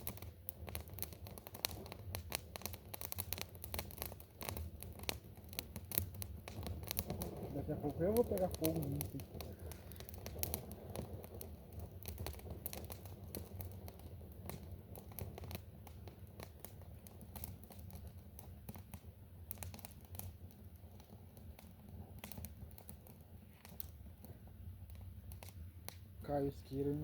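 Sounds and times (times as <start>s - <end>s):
crackles of burning twigs: 0.0s - 27.0s.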